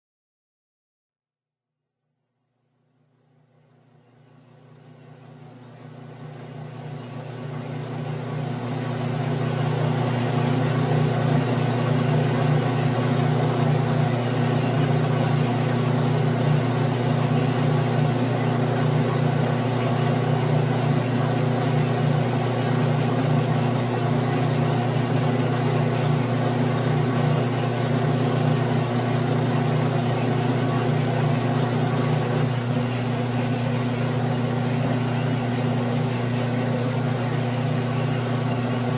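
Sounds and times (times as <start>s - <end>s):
lathe motor humming: 6.1s - 38.9s.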